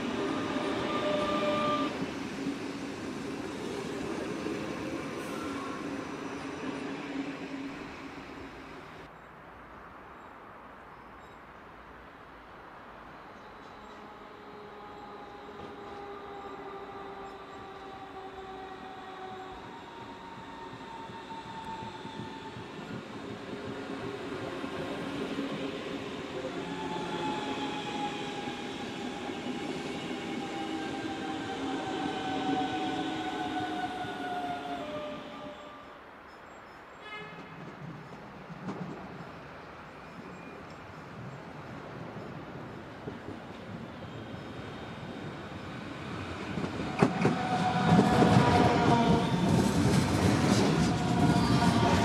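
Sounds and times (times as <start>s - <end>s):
electric train whine: 0.0s - 9.1s, 13.2s - 52.0s.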